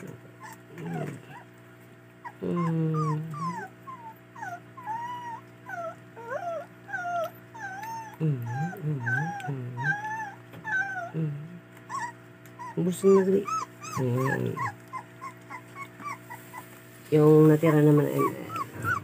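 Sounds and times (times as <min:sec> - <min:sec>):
puppy whining and whimpering: 0:00.0 - 0:01.6, 0:02.2 - 0:16.7, 0:17.7 - 0:19.0.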